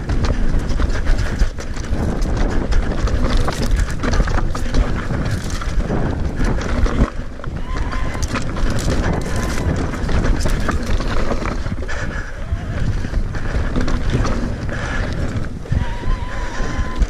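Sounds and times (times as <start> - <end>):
bike rattles and knocks: 0.0 - 17.0
tyres rumbling on dirt trail: 0.0 - 17.0
wind buffeting microphone: 0.0 - 17.0.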